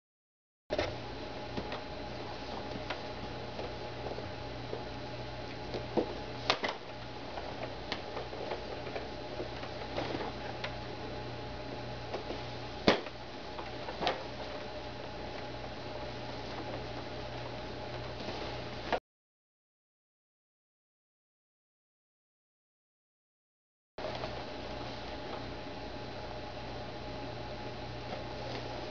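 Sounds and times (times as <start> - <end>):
low electrical hum: 0.7 - 19.0, 24.0 - 28.9.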